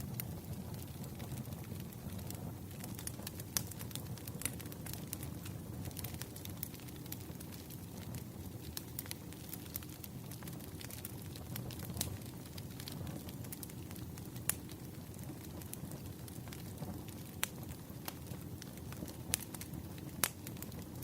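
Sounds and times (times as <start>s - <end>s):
wood fire crackling: 0.0s - 21.0s
sharp pops of burning wood: 0.1s - 21.0s.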